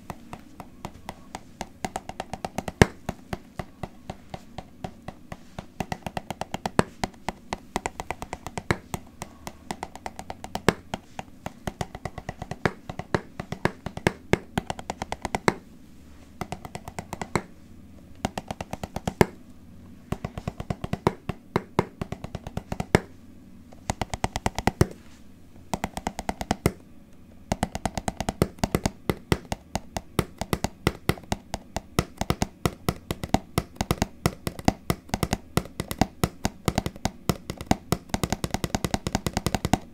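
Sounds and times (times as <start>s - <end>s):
sharp tapping on microphone: 0.0s - 15.7s, 16.4s - 19.4s, 20.1s - 25.1s, 25.7s - 26.8s, 27.5s - 39.9s.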